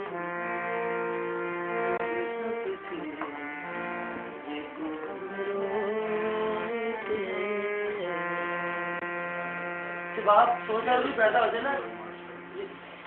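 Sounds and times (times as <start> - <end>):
slow melody of held notes: 0.0 - 13.0.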